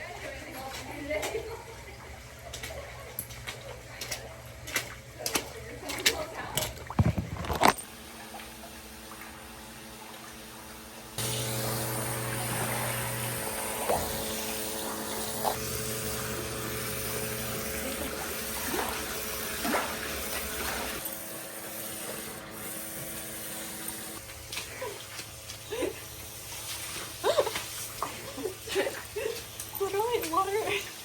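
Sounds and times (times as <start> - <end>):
electric water pump humming: 0.1 - 31.0.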